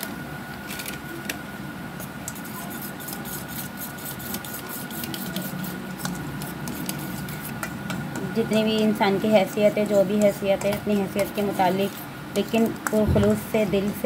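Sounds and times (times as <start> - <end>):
spoon stirring wet paste: 2.2 - 14.0.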